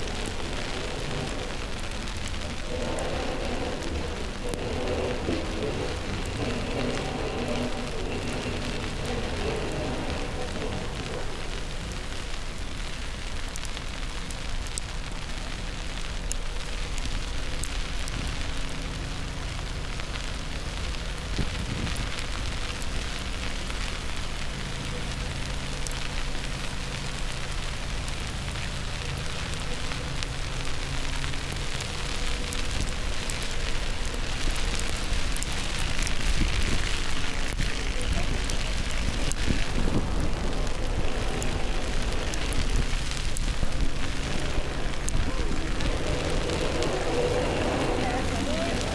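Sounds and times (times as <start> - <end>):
vehicle engines humming: 0.0 - 15.6, 17.0 - 48.9
snowstorm hiss: 0.0 - 48.9.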